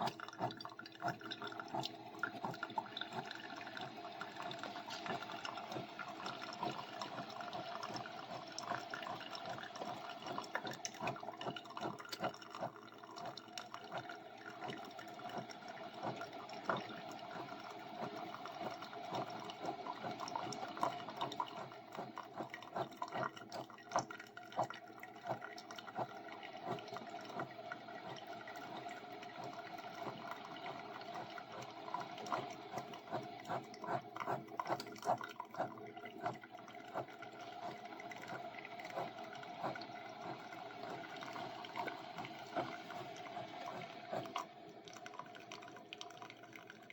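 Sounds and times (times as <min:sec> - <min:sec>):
coffee maker hum: 0:00.0 - 0:46.9
coffee streaming and gurgling: 0:00.0 - 0:46.9
small crackles and drips: 0:00.0 - 0:46.9.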